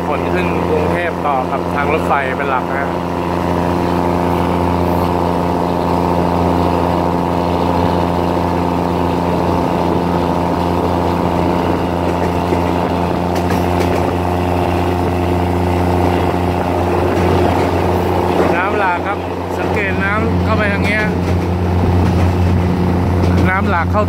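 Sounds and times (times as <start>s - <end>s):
train diesel engine droning: 0.0s - 24.0s.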